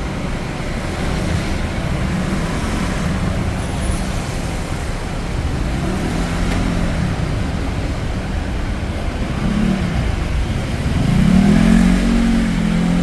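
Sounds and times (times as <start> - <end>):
rain and tyres hissing: 0.0 - 13.0
traffic engine hum: 0.0 - 13.0
vehicle passing close: 0.0 - 13.0.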